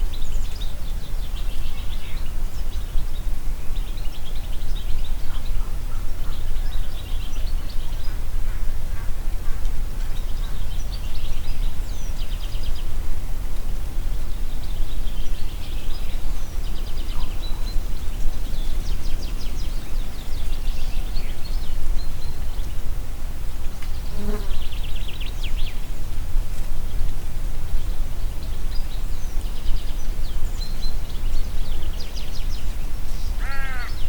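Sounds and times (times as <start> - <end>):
songbirds trilling and chirping: 0.0 - 13.2, 14.2 - 34.0.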